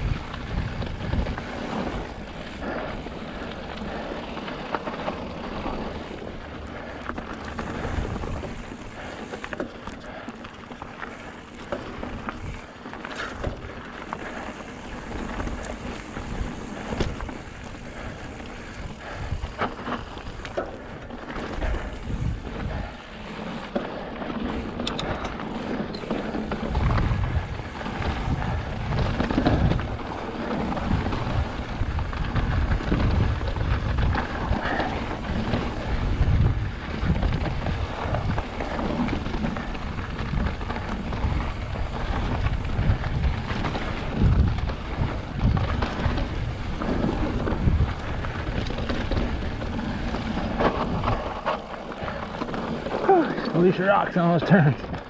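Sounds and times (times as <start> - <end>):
wind buffeting microphone: 0.0 - 9.5, 11.9 - 53.6
bike clicks and rattles: 0.0 - 55.0
bike tyres rolling over gravel: 0.0 - 55.0.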